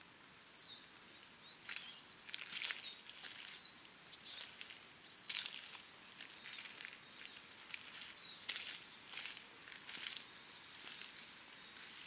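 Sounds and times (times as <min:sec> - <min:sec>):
faint outdoor hiss: 0:00.0 - 0:12.0
small birds chirping: 0:00.4 - 0:12.0.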